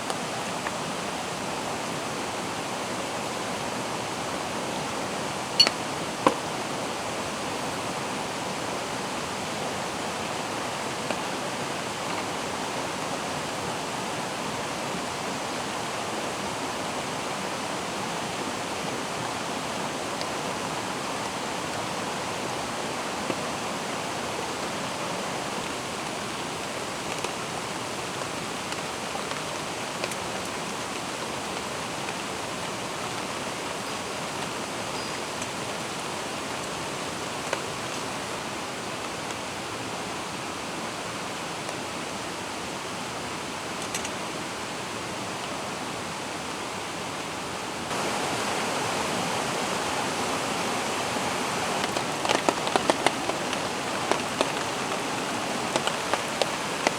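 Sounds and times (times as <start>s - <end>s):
mountain stream flowing: 0.0s - 56.9s.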